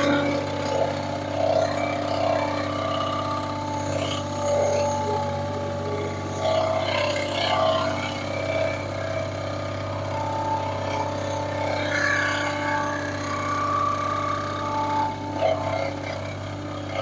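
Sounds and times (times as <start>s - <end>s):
engine running steadily: 0.0s - 17.0s
wavering high whine: 0.0s - 17.0s.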